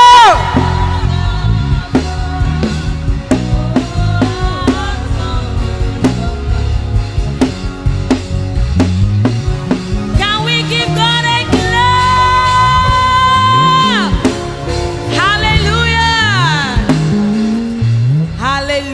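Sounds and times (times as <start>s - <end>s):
drum kit steady beat: 0.0s - 18.6s
bass line: 0.0s - 18.9s
sustained chords: 0.0s - 18.9s.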